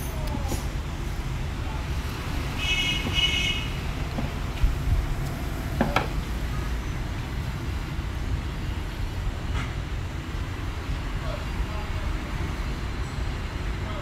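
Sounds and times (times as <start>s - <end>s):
background traffic rumble: 0.0s - 14.0s.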